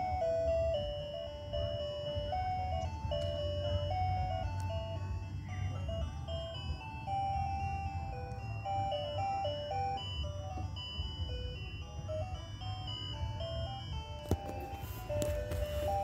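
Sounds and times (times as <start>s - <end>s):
ice cream truck jingle: 0.0s - 16.0s.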